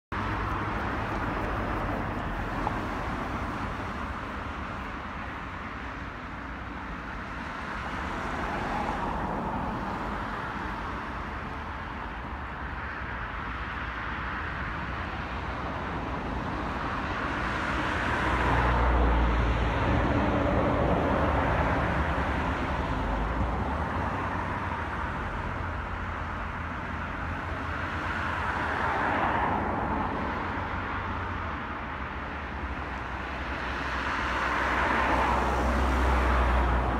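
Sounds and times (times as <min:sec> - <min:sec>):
distant road traffic: 0:00.1 - 0:36.9
vehicles passing: 0:00.1 - 0:36.9.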